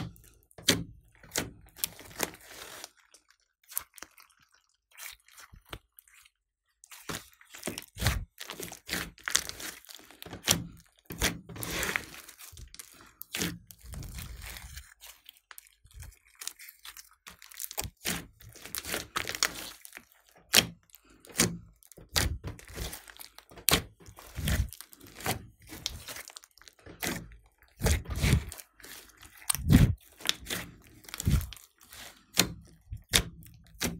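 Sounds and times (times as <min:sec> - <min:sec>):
slime squishing and popping: 0:00.0 - 0:06.3, 0:06.9 - 0:33.9.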